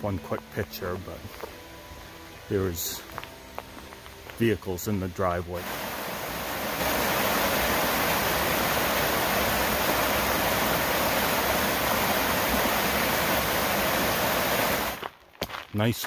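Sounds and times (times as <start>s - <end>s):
stream rushing over boulders: 0.0s - 15.1s.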